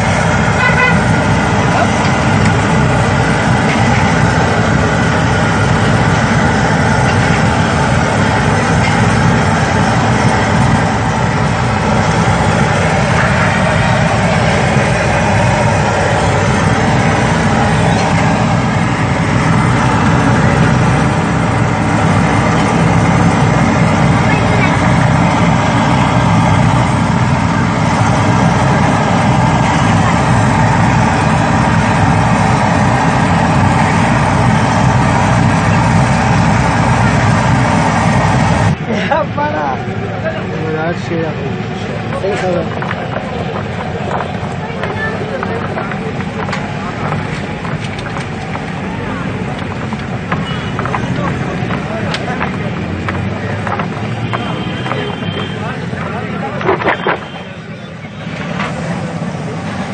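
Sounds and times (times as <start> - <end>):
low rumble: 0.0 - 55.3.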